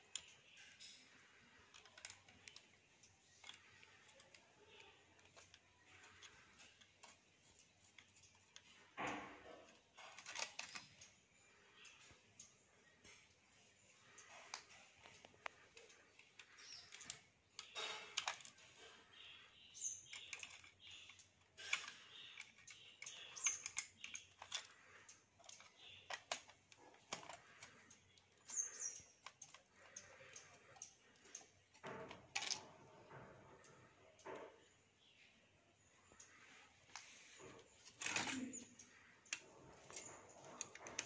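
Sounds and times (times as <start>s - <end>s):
metal laminations clicking and scraping: 0.0s - 41.0s.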